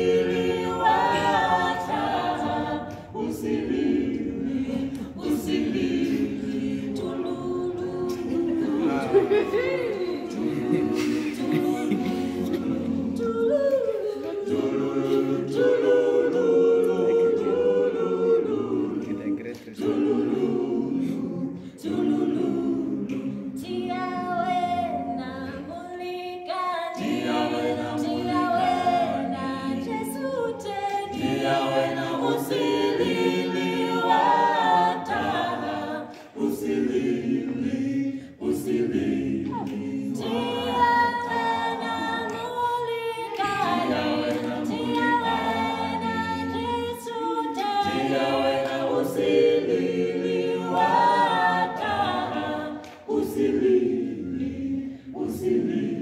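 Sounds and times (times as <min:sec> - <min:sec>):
vocal quartet singing a cappella: 0:00.0 - 0:56.0.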